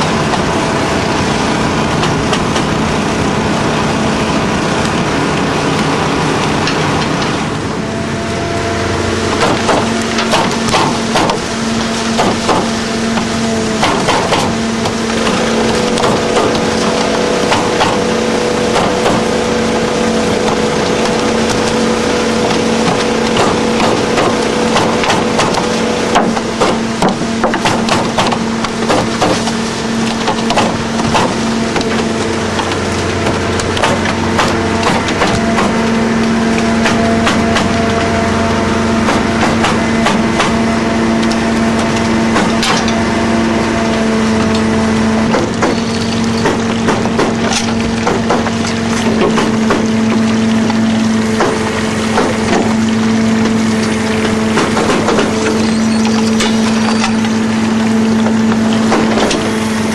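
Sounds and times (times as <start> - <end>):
boat engine and hydraulics drone: 0.0 - 59.9.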